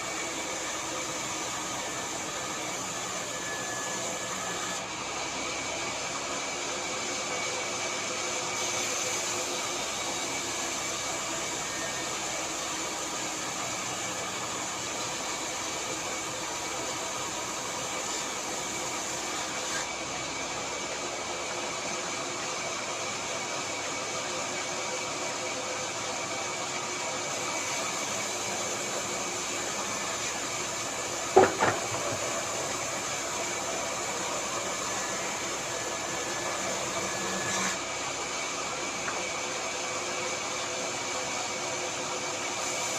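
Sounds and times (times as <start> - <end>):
power saw running: 0.0 - 42.8.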